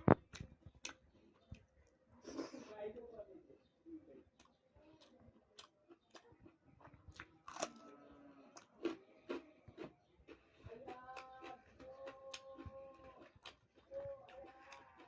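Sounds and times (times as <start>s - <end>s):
close chewing with mouth smacks: 0.0s - 2.6s, 4.2s - 7.8s, 8.4s - 15.0s.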